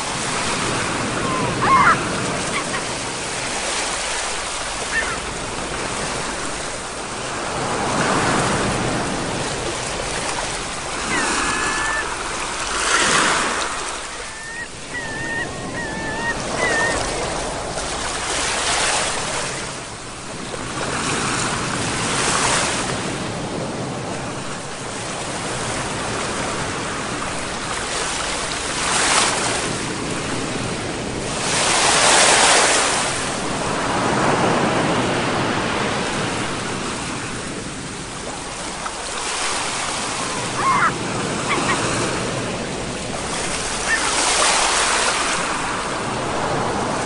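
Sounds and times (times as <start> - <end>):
sea waves breaking ashore: 0.0 - 47.0.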